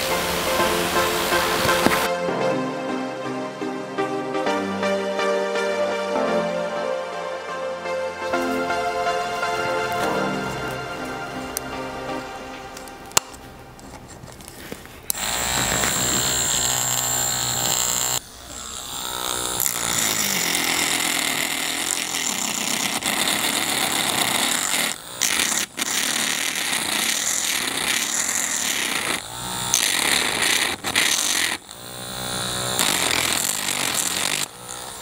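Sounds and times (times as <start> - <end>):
electric motor whining: 0.0 - 2.1, 8.3 - 35.0
sanding drum grinding: 0.0 - 2.1, 8.3 - 35.0.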